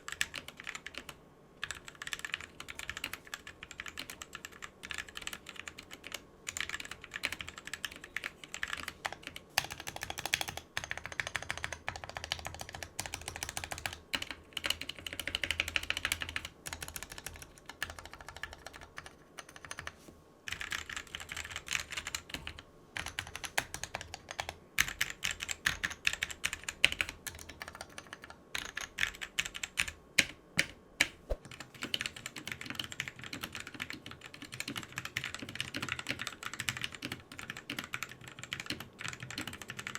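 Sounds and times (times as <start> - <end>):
fast typing on mechanical keyboard: 0.0 - 30.7, 31.5 - 39.9.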